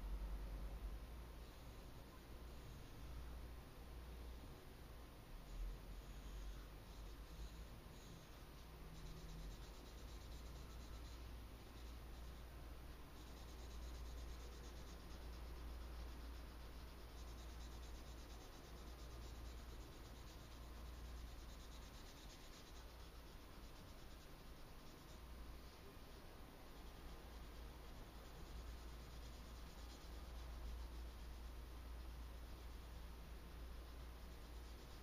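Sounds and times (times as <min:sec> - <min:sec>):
steady low hum: 0:00.0 - 0:35.0
pencil scratching on paper: 0:06.0 - 0:25.8, 0:26.7 - 0:35.0.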